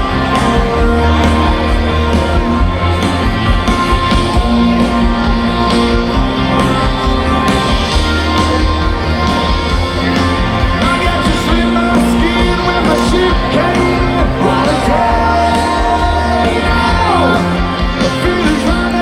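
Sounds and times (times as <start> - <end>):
lead vocal singing: 0.0 - 19.0
live rock band playing: 0.0 - 19.0
steady bass line: 0.0 - 19.0.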